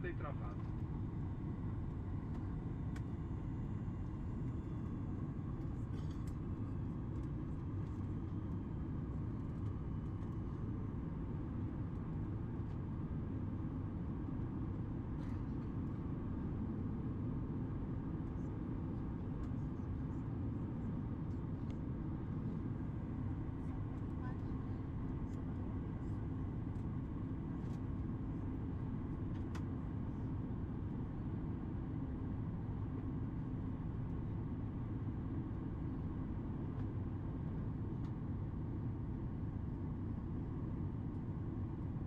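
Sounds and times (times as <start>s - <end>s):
airplane cabin engine rush: 0.0s - 42.0s.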